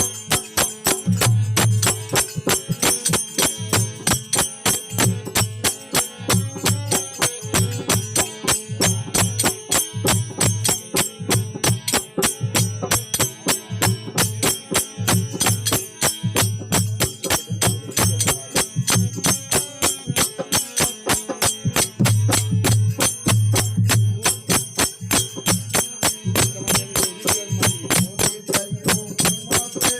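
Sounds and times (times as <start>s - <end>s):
jingling metal percussion: 0.0s - 29.9s
pulsing drum: 0.0s - 29.9s.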